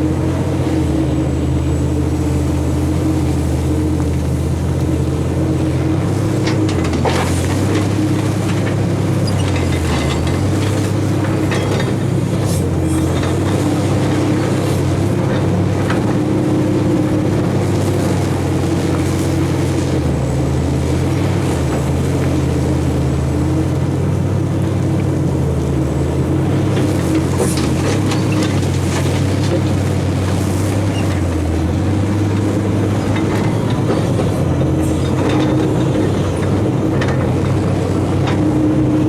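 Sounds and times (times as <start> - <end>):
heavy machinery diesel engine: 0.0 - 39.0.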